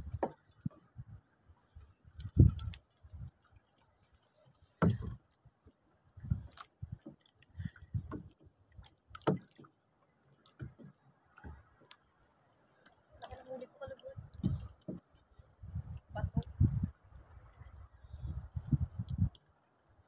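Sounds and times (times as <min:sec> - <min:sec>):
small waves slapping boat hull: 0:00.0 - 0:20.0.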